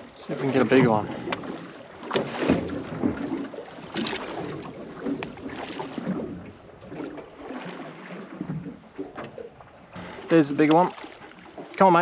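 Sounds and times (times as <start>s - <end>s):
water slapping against boat hull: 0.2s - 12.0s.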